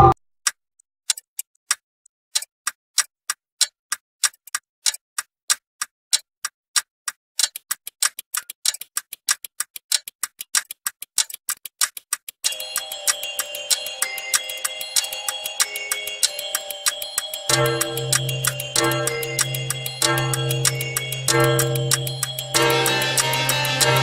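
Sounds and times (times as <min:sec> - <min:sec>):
clock ticking: 0:00.0 - 0:24.0.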